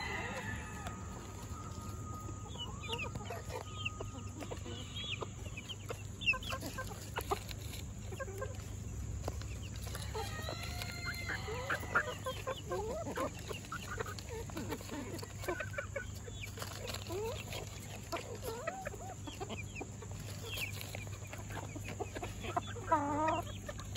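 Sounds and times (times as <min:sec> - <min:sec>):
chickens clucking and chirping: 0:00.0 - 0:23.9.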